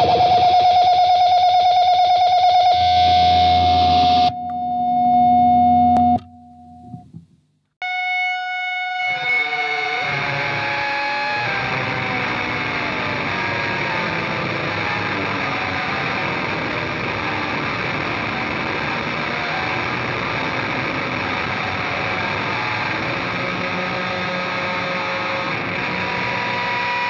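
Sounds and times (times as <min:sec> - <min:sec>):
fuzz electric guitar with wah: 0:00.0 - 0:04.3, 0:07.8 - 0:27.0.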